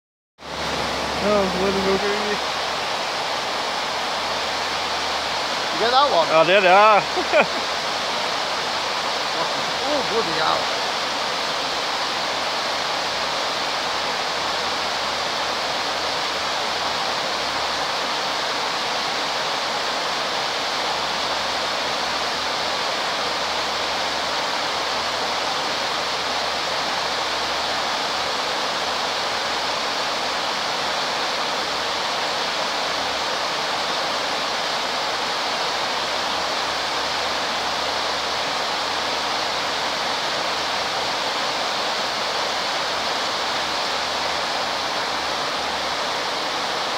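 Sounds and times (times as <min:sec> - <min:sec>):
water rushing over a weir: 0:00.4 - 0:46.9.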